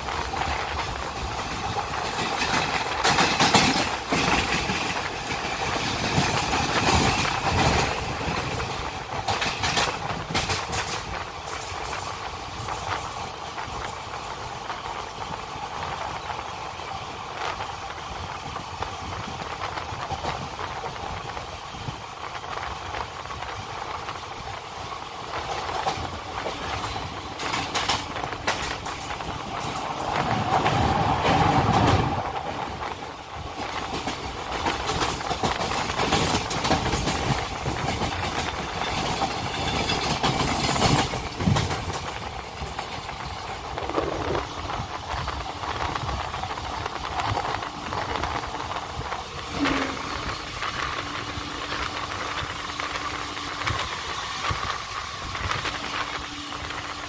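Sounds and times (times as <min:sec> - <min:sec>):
wheels clattering over rail joints: 0:00.0 - 0:21.9, 0:25.4 - 0:56.7
train rumble and rushing air: 0:00.0 - 0:57.0.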